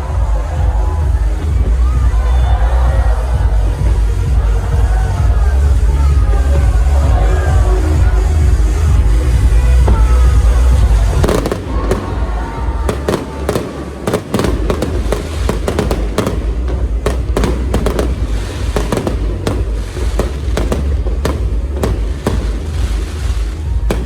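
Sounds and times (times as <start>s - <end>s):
bass-heavy music: 0.0s - 24.0s
fireworks bangs and crackles: 0.0s - 24.0s.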